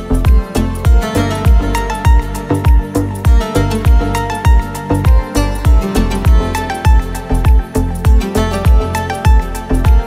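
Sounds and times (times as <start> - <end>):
background music with beat: 0.0 - 10.0
deep kick drum: 0.2 - 10.0.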